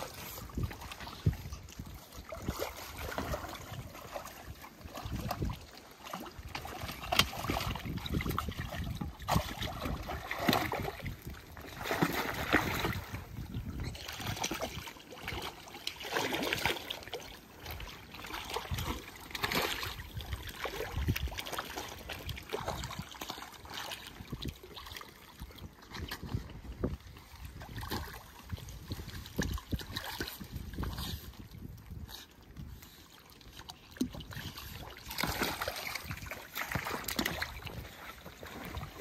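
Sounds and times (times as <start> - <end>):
water splashing and sloshing: 0.0 - 39.0.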